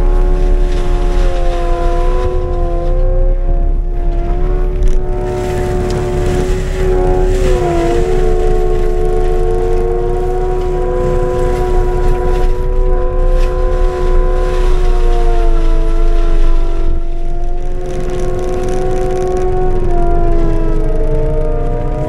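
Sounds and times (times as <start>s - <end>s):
low engine rumble: 0.0s - 22.0s
mulcher whine: 0.0s - 22.0s.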